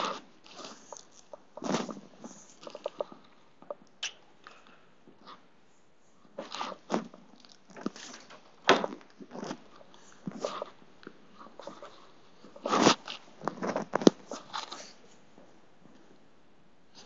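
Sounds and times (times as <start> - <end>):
rustling and shuffling of clothes: 0.0 - 3.7, 4.4 - 17.0.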